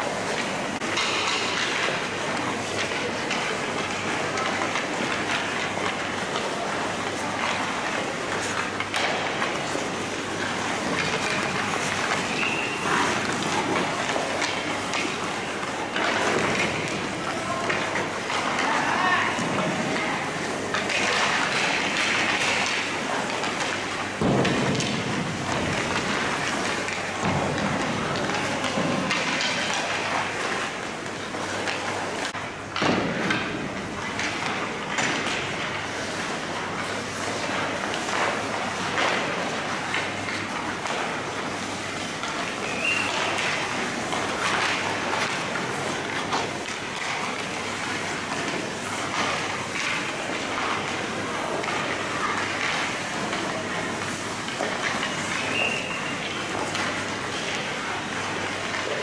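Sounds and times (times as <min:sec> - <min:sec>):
skate blades scraping ice: 0:00.0 - 0:32.4, 0:33.5 - 0:59.0
hockey sticks and pucks clattering: 0:00.0 - 0:59.0.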